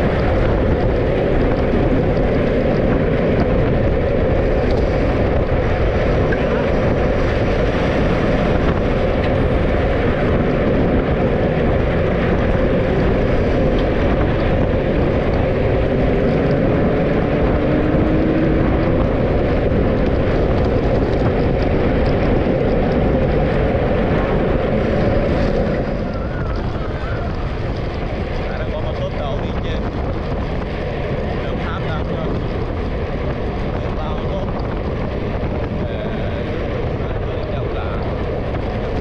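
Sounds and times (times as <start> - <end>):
vehicle engine noise: 0.0 - 39.0
wind rushing past vehicle: 0.0 - 39.0.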